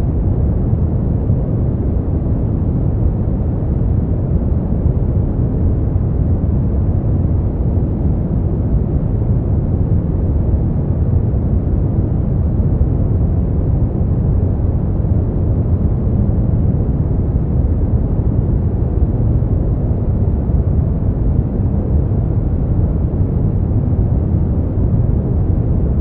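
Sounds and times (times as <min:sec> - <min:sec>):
deep white noise: 0:00.0 - 0:26.0.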